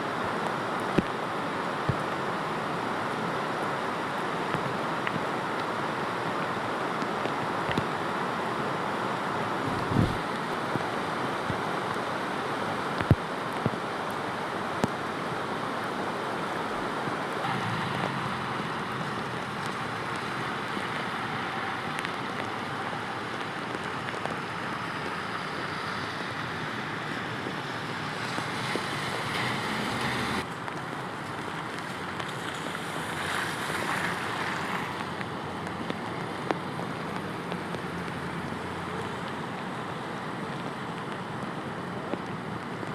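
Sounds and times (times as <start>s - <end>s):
floodwater rushing in river: 0.0s - 42.9s.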